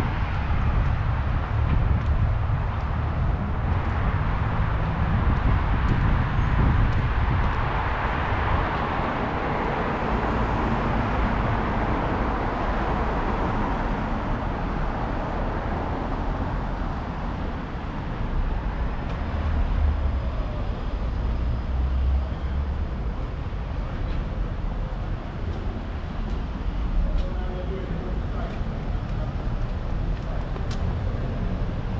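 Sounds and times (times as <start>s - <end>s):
low rumble of traffic: 0.0s - 31.9s
passing vehicle tyre noise: 0.0s - 31.9s.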